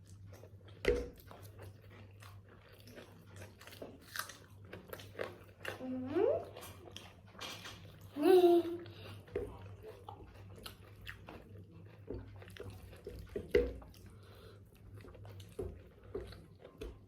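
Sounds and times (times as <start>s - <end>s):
close-up chewing and crunching: 0.0s - 17.0s.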